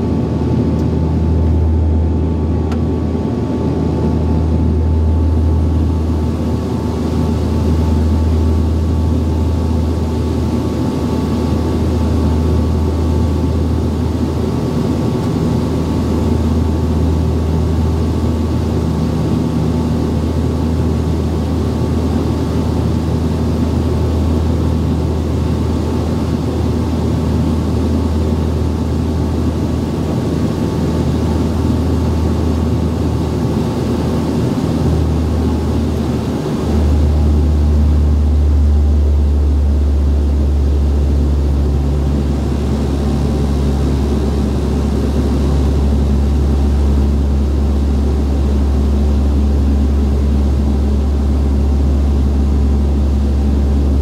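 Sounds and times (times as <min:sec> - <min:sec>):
turboprop engines droning in cabin: 0:00.0 - 0:54.0.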